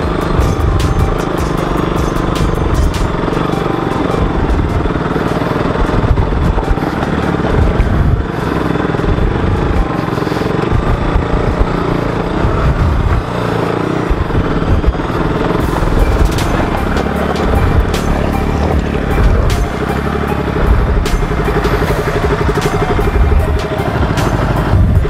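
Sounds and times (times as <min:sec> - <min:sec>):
motorcycle engine labouring: 0:00.0 - 0:25.0.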